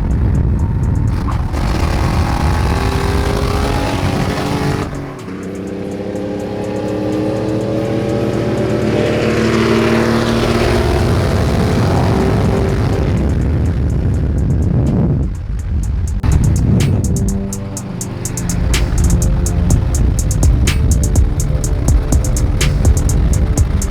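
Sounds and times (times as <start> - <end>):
car engine accelerating hard: 0.0 - 23.9.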